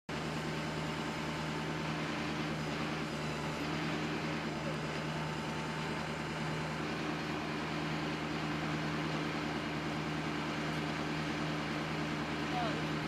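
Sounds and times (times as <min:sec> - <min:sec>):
truck engine running: 0:00.1 - 0:13.0.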